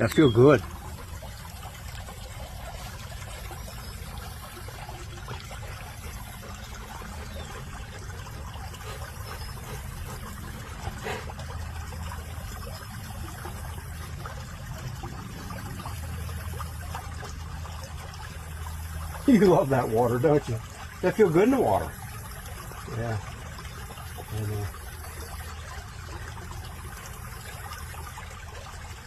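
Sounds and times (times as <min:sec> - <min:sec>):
stream water running: 0:00.0 - 0:29.0.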